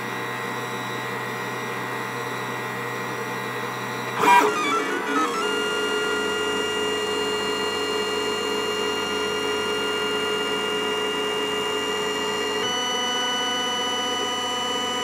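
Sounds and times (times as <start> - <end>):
stepper motors whining: 2.5 - 15.0.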